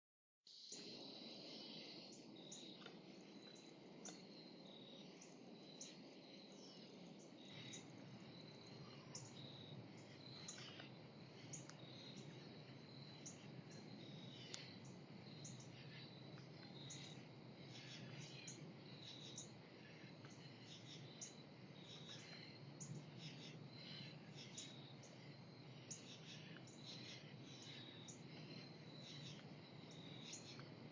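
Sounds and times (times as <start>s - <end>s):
faint birds chirping: 0.5s - 30.9s
high insect trill: 0.5s - 30.9s
low background hum: 0.8s - 30.9s.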